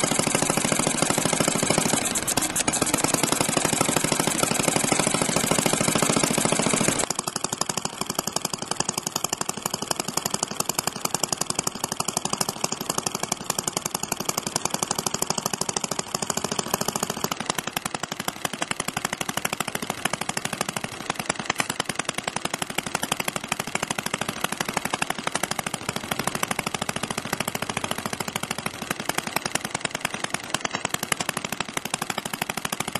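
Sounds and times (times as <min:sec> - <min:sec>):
model engine sharp beats: 0:00.0 - 0:32.9.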